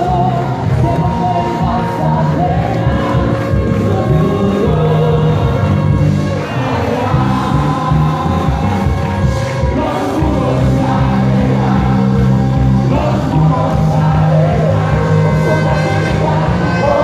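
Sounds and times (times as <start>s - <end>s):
congregation singing and shouting: 0.0s - 17.0s
worship music over loudspeakers: 0.0s - 17.0s.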